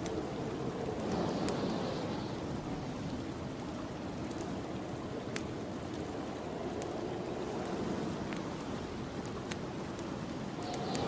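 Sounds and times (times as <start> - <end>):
snowstorm wind rushing: 0.0 - 11.0
wood fire crackling: 0.0 - 11.0.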